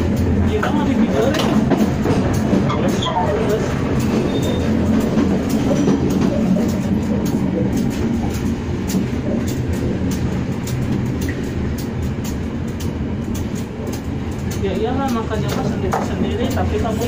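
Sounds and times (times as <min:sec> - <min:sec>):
sharp clicks from rails: 0:00.0 - 0:17.0
train wheels rumbling on track: 0:00.0 - 0:17.0.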